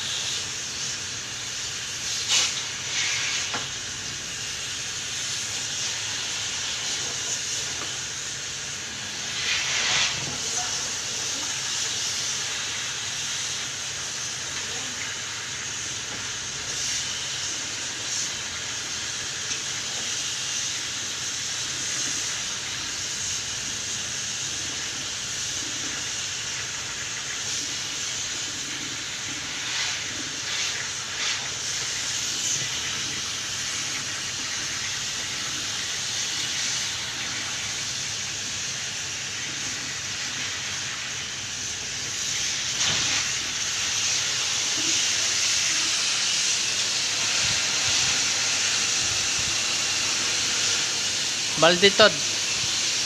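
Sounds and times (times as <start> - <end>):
pressure washer water spraying: 0.0 - 53.0.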